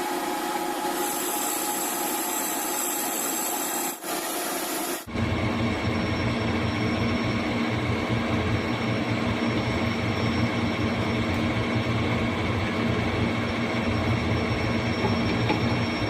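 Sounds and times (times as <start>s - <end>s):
machine humming with high tones: 0.0s - 16.0s.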